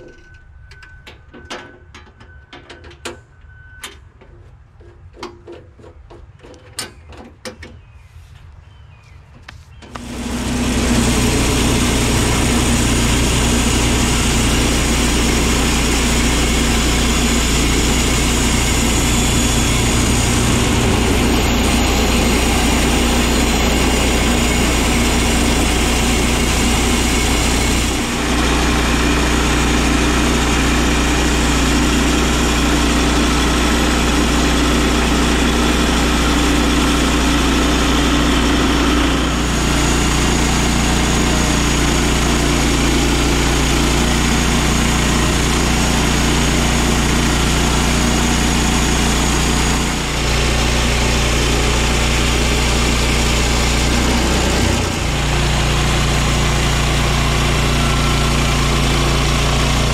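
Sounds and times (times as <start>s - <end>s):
band sawmill cutting log: 9.8s - 59.9s.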